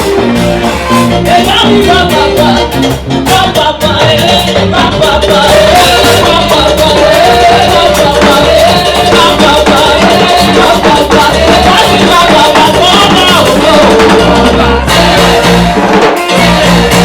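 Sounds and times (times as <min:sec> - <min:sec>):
driving percussion beat: 0:00.0 - 0:17.0
person singing melody: 0:00.0 - 0:17.0
upbeat gospel music: 0:00.0 - 0:17.0.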